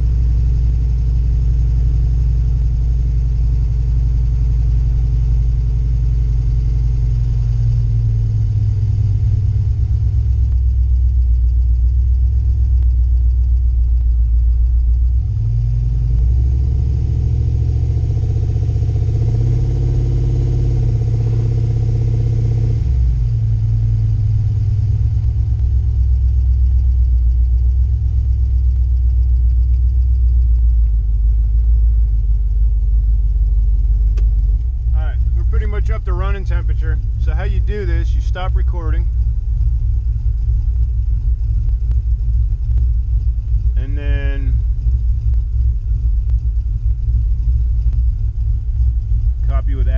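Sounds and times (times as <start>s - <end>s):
truck engine droning: 0.0s - 49.9s.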